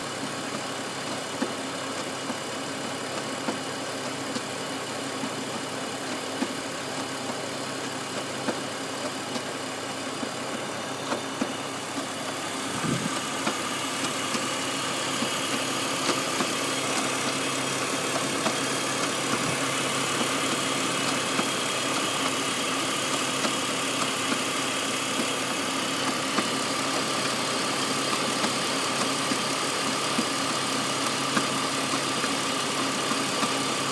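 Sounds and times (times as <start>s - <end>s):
car engine idling with ticking: 0.0s - 33.9s.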